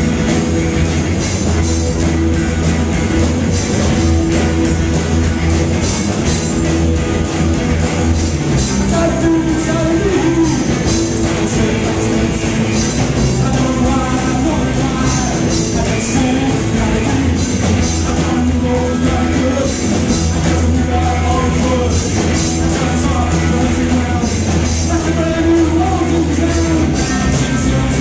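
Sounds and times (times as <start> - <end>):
bass guitar: 0.0 - 28.0
drum kit: 0.0 - 28.0
electric guitars: 0.0 - 28.0.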